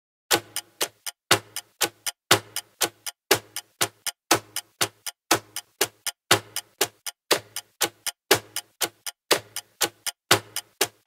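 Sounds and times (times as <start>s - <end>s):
clock ticking: 0.3s - 11.0s.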